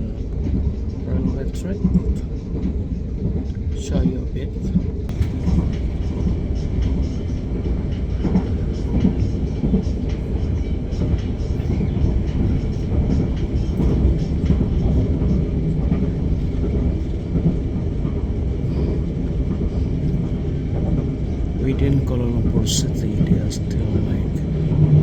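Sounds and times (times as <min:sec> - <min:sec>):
train rumbling on track: 0:00.0 - 0:25.0.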